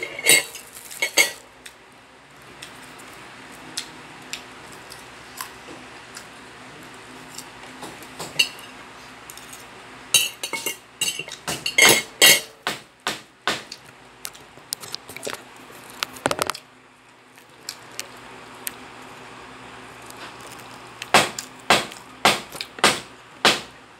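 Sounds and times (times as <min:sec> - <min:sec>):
low background hum: 0:00.0 - 0:23.9.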